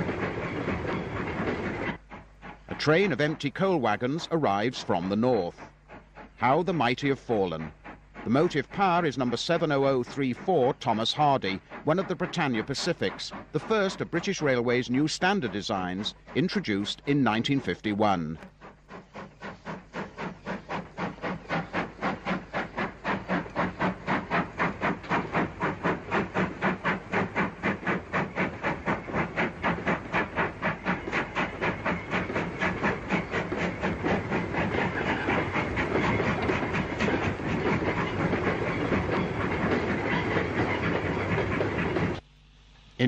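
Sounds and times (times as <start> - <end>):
steam locomotive exhaust beats: 0.0 - 42.3.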